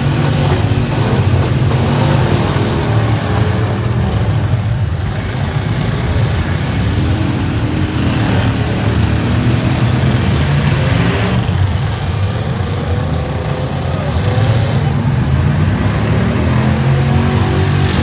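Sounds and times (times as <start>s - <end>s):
car engines revving loud: 0.0s - 18.0s.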